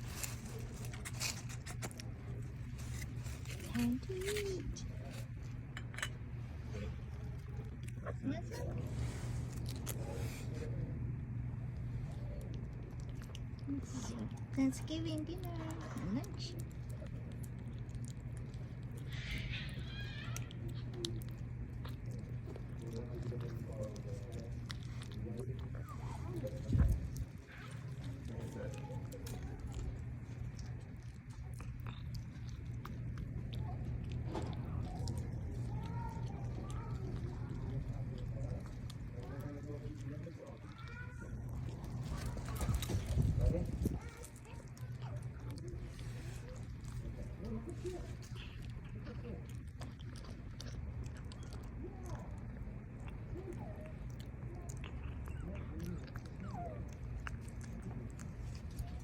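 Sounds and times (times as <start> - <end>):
cat chewing food: 0.0 - 59.0
low background rumble: 0.0 - 59.0.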